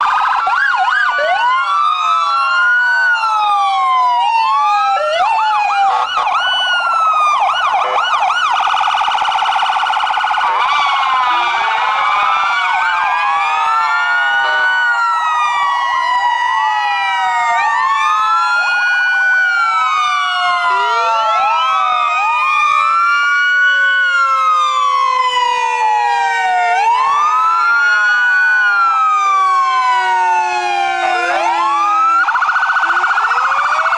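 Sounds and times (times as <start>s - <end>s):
siren yelp: 0.0s - 33.9s
sirens wailing: 0.0s - 33.9s.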